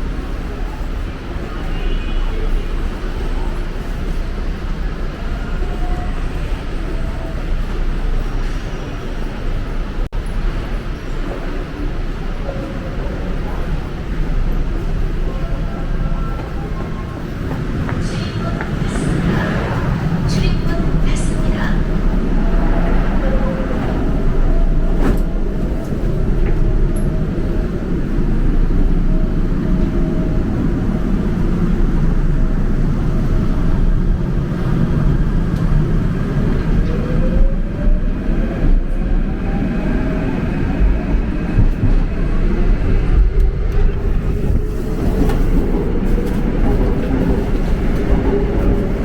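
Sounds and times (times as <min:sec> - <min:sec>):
subway train rumble: 0:00.0 - 0:49.0.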